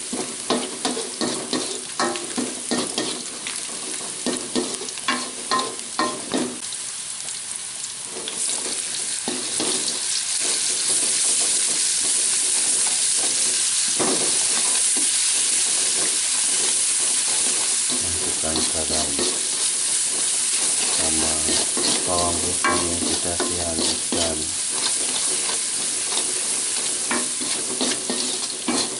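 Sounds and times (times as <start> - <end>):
spatula scraping wok: 0.0 - 6.6, 8.0 - 28.9
vegetables sizzling in oil: 0.0 - 28.9.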